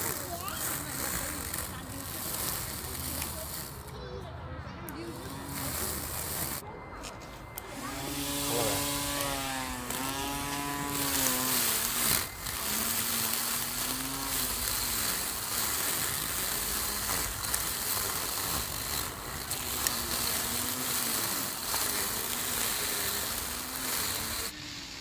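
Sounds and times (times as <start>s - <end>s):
hiss of cutting: 0.0s - 3.9s, 5.1s - 6.6s, 7.6s - 25.0s
electric garden tool motor whining: 0.0s - 4.0s, 4.9s - 24.6s.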